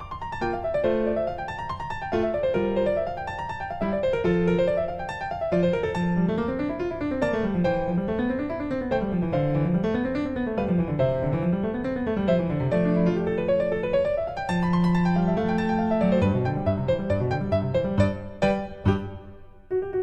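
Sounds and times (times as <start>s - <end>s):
piano arpeggios: 0.0s - 20.0s.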